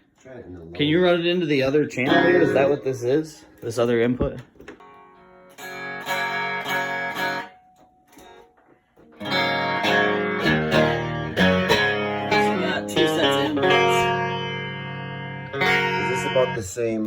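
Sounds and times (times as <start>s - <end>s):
electric guitar chords and picked notes: 2.0s - 3.3s, 4.6s - 17.0s.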